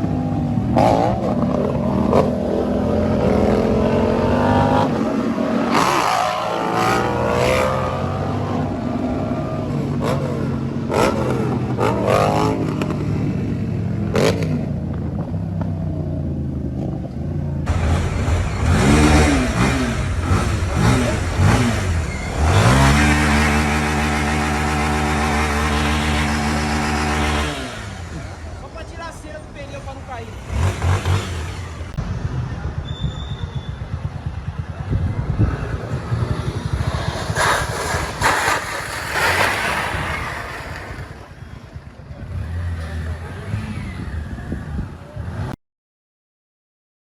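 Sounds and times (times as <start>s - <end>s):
engine revving up steeply: 0.0s - 13.4s, 17.7s - 29.1s, 30.0s - 45.6s
motorcycle engines revving: 0.0s - 45.6s.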